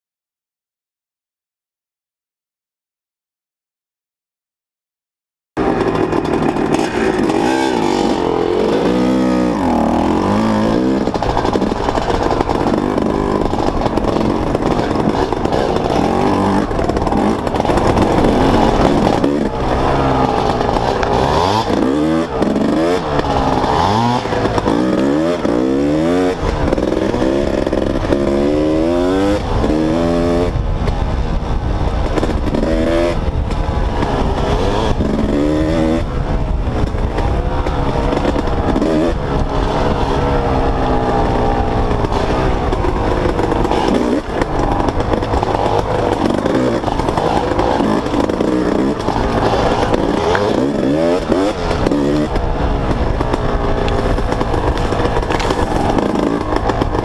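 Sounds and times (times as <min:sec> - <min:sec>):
dirt bike engine revving: 0:05.6 - 0:57.0.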